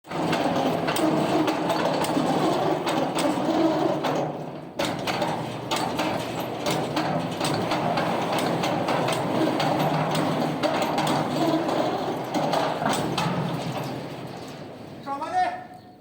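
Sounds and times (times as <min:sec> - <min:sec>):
heavy machinery clatter: 0:00.1 - 0:15.1.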